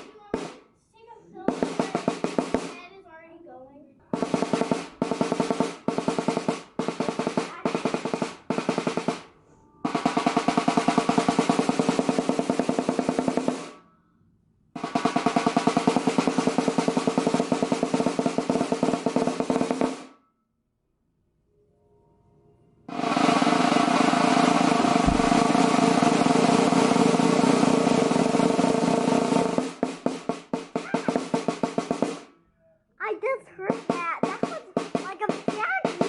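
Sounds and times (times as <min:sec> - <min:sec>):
snare drum strokes and rolls: 0:00.0 - 0:00.6, 0:01.4 - 0:03.0, 0:04.1 - 0:13.8, 0:14.8 - 0:20.2, 0:22.9 - 0:32.3, 0:33.6 - 0:36.0.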